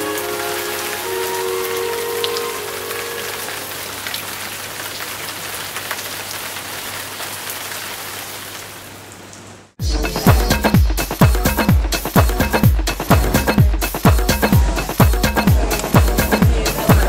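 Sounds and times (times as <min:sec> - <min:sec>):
rain on wet pavement: 0:00.0 - 0:09.8, 0:12.0 - 0:17.0.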